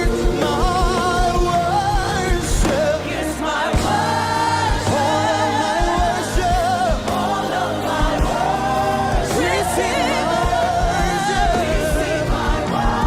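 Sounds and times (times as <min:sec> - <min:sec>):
held keyboard chords: 0:00.0 - 0:13.0
sung vocals: 0:00.0 - 0:13.0.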